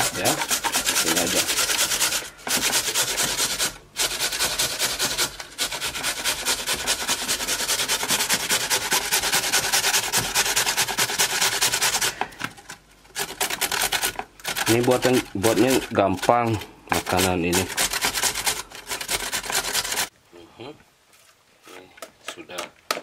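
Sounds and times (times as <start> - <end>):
potato grated on metal grater: 0.0 - 20.1.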